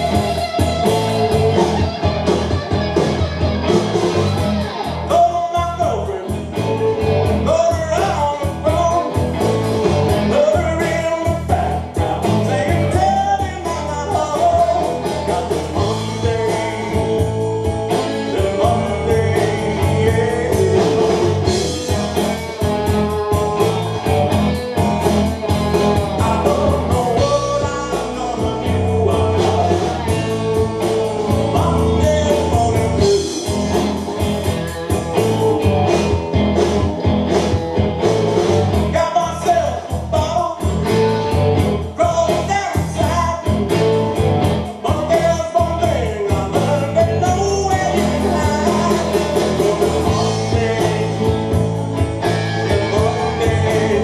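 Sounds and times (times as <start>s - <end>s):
man singing: 0.0s - 2.1s, 4.9s - 24.1s, 25.8s - 36.9s, 38.7s - 54.0s
bass guitar: 0.0s - 54.0s
drums: 0.0s - 54.0s
electric guitars: 0.0s - 54.0s.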